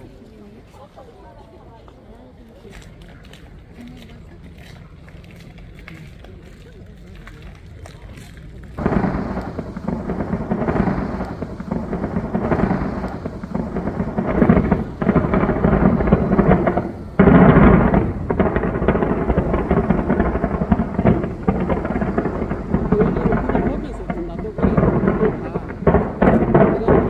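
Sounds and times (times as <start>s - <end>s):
fireworks barrage: 4.2s - 27.0s.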